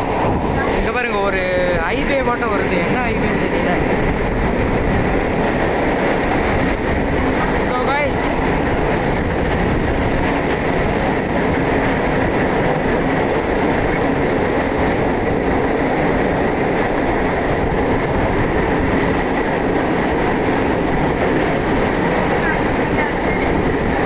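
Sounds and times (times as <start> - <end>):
train running on track: 0.0 - 24.0.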